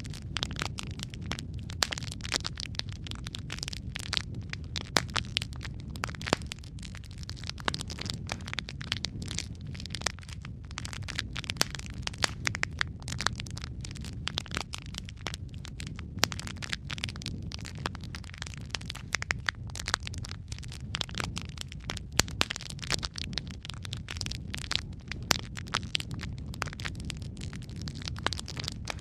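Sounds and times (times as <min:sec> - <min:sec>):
logs crackling and popping: 0:00.0 - 0:29.0
low rumble of flame: 0:00.0 - 0:29.0.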